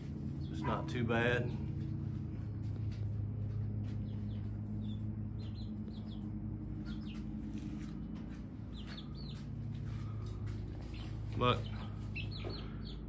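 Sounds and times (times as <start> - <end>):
baby chicks peeping: 0.0 - 13.0
low hum: 0.0 - 13.0.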